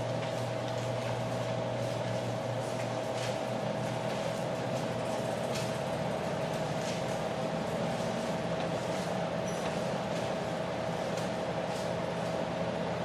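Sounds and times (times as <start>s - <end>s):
mid-pitched hum: 0.0s - 13.0s.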